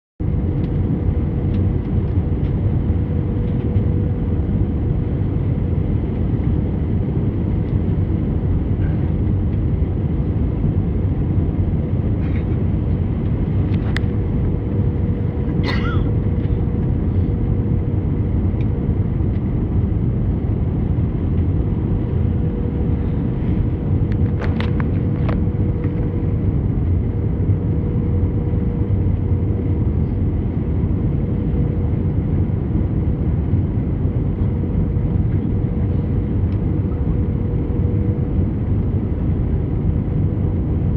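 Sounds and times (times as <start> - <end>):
aircraft cabin rumble: 0.2 - 40.9
constant hum: 0.2 - 40.9.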